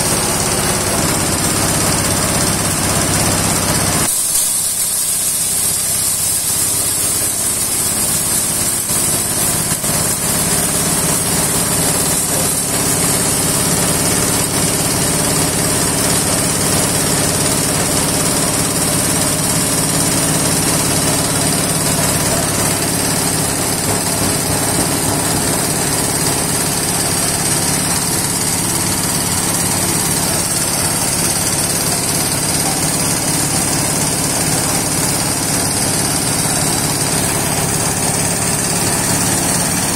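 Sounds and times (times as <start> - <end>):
hammer mill machine drone: 0.0 - 39.9
hiss of grinding glass: 4.1 - 39.9.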